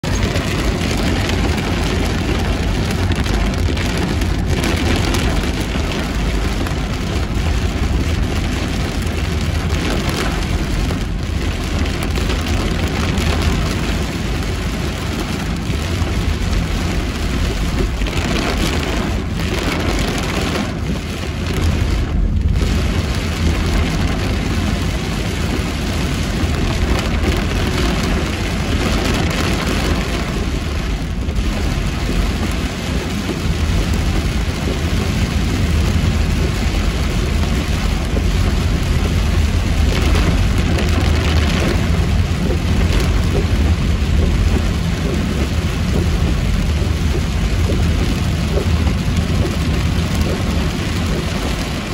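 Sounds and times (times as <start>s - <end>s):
car rumble: 0.0s - 51.9s.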